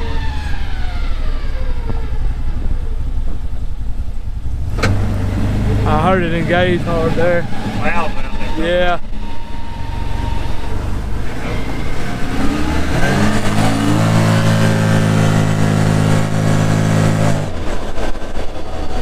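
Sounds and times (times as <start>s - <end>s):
engine accelerating hard: 0.0s - 19.0s
road and wind noise: 0.0s - 19.0s.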